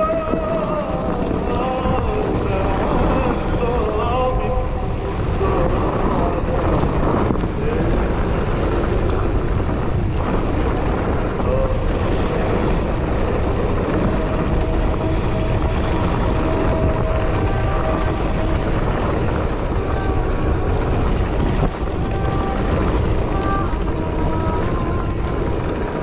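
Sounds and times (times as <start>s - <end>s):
bike tyres rolling on dirt: 0.0s - 26.0s
wind on microphone: 0.0s - 26.0s.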